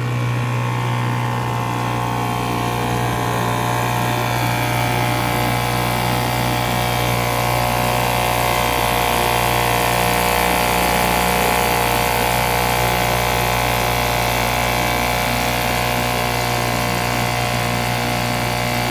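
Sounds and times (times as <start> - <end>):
outboard motor running: 0.0 - 18.9.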